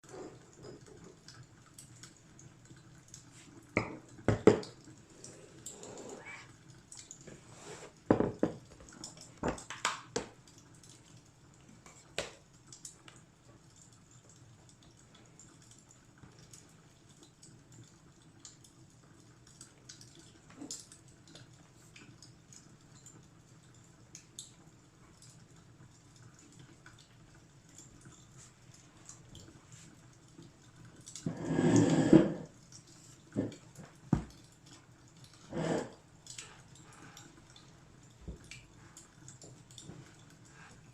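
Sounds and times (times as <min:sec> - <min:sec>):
fireplace crackling and popping: 0:00.1 - 0:40.9.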